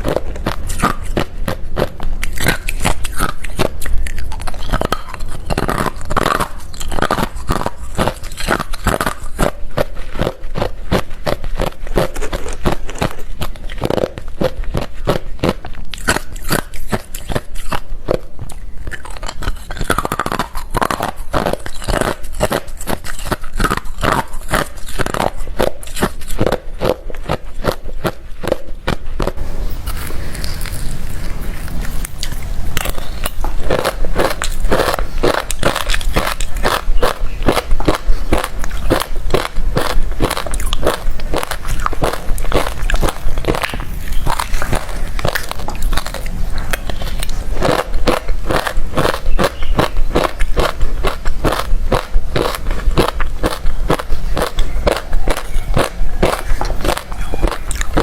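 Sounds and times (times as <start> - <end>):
crunching ice between teeth: 0.0 - 58.0.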